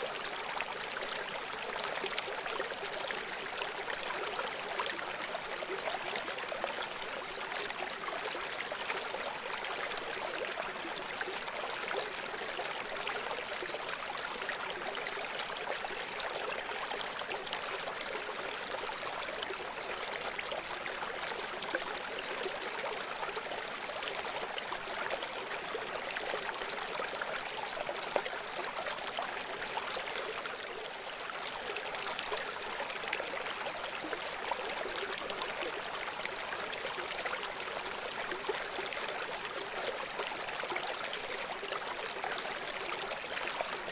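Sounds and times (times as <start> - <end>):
stream babbling over rocks: 0.0 - 43.9.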